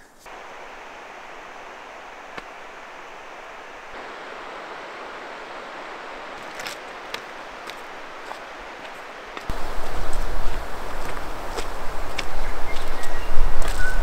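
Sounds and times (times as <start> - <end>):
river rushing: 0.3 - 14.0.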